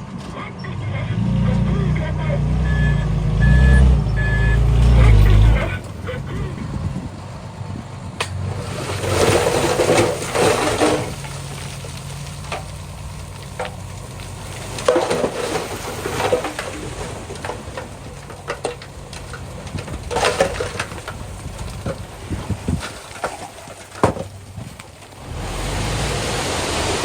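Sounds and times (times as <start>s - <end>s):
bulldozer diesel engine running: 0.0s - 27.0s
stone and soil being pushed: 0.0s - 27.0s.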